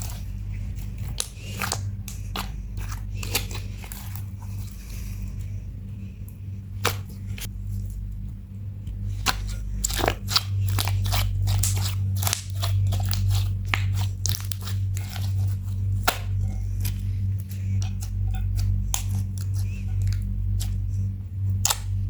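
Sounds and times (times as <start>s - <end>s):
hands squishing slime: 0.0s - 22.0s
low hum: 0.0s - 22.0s.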